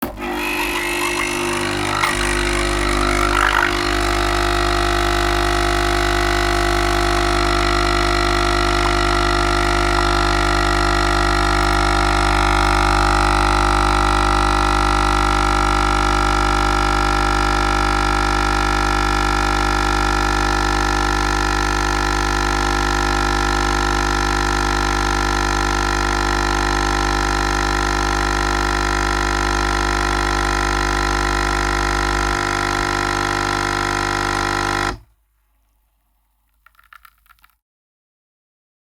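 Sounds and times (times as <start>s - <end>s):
coffee machine humming: 0.0s - 35.0s.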